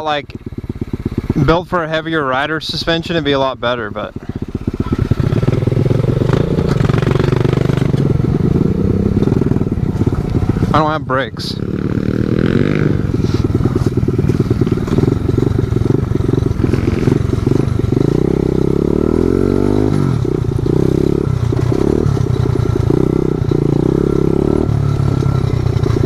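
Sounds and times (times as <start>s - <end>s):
small motorbike engine revving: 4.1s - 10.8s, 11.6s - 26.0s.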